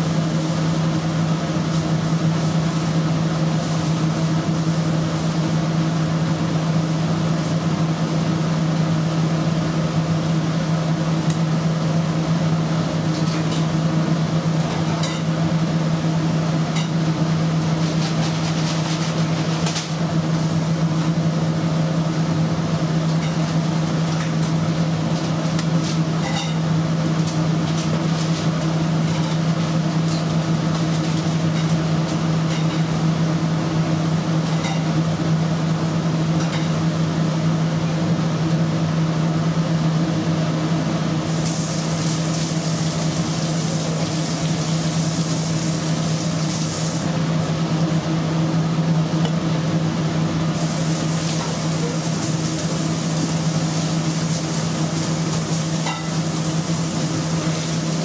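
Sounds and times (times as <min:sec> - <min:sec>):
kitchen machinery humming: 0:00.0 - 0:58.0.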